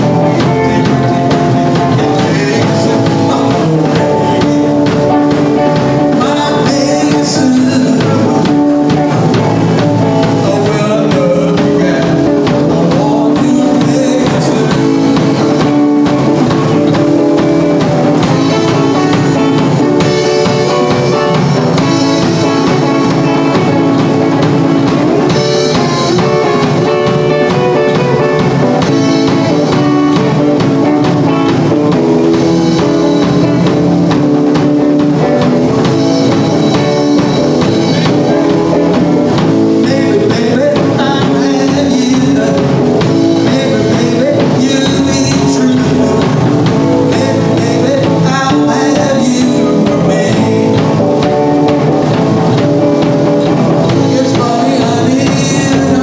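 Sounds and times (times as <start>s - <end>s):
drum kit beat: 0.0s - 56.0s
electric guitar: 0.0s - 56.0s
rock and roll band playing: 0.0s - 56.0s
upright bass: 0.0s - 56.0s.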